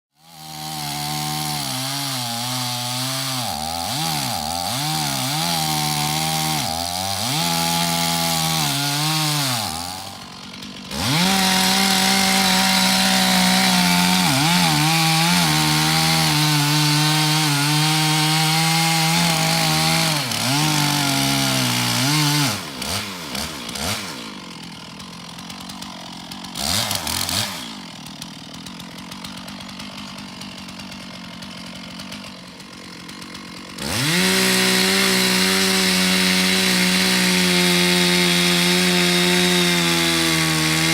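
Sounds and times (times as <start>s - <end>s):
chainsaw cutting wood: 0.1s - 40.9s.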